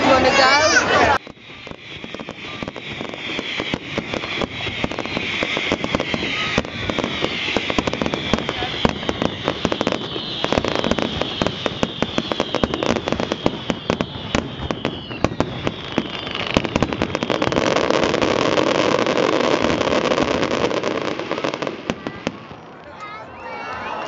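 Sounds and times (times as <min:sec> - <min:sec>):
dense wash of fireworks: 0:00.0 - 0:24.0
fireworks bangs and crackles: 0:00.0 - 0:24.0
falling whistling tones: 0:00.2 - 0:20.6.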